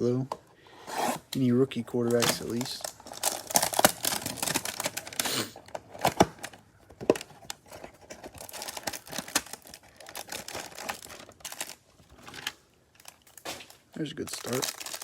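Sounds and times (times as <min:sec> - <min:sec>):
packaging crinkling and tearing: 0:02.0 - 0:15.0.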